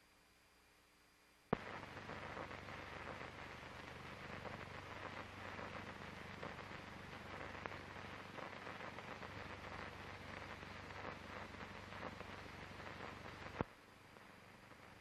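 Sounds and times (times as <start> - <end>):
film soundtrack hiss and crackle: 0.0 - 15.0
steady low hum: 0.0 - 15.0.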